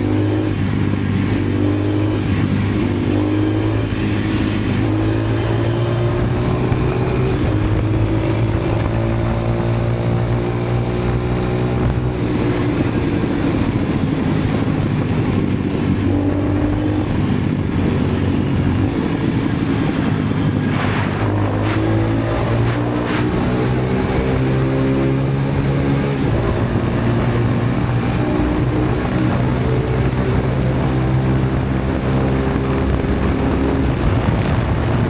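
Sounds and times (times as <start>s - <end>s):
loud motorcycle engine running: 0.0s - 35.0s.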